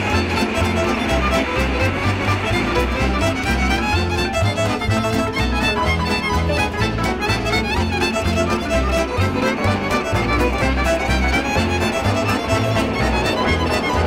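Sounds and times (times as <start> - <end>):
instrumental music with pulsing beat: 0.0 - 14.0.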